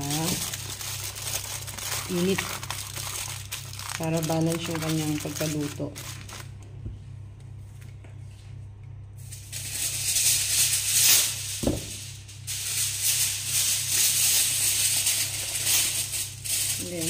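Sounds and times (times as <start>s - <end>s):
aluminium foil crinkling: 0.0s - 6.6s, 9.2s - 17.0s.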